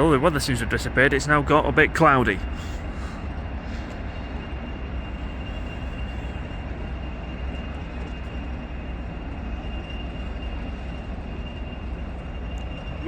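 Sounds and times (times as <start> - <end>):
diesel locomotive engine rumble: 0.0 - 13.0
steady high whine: 0.0 - 13.0.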